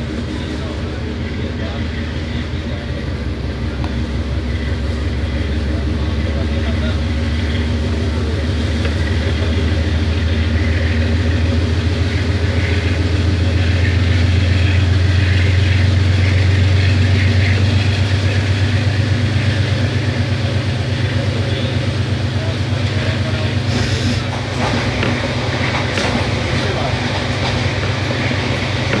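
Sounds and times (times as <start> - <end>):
locomotive diesel engine chugging: 0.0 - 29.0.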